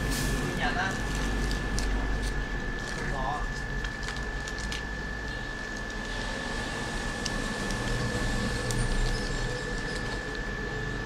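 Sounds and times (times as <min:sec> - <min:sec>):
electrical hum: 0:00.0 - 0:11.0
high-pitched whine: 0:00.0 - 0:11.0.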